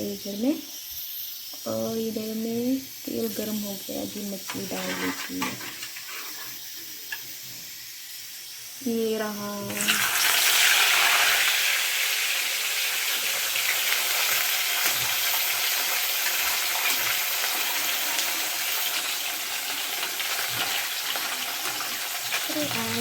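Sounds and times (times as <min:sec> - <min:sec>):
fish frying in hot oil: 0:00.0 - 0:23.0.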